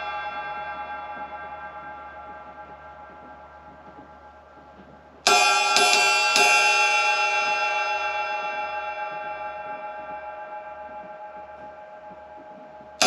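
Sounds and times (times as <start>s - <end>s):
ride cymbal strikes and ringing: 0.0s - 13.0s.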